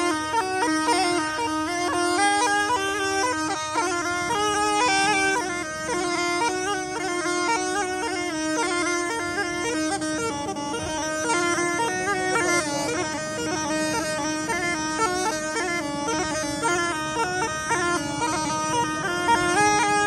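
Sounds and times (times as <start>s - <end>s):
gourd pipe melody over drone: 0.0s - 20.0s.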